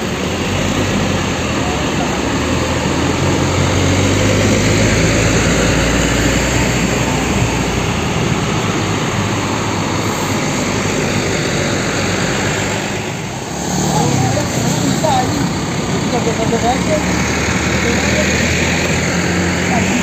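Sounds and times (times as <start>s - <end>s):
coaches driving past: 0.0s - 20.0s.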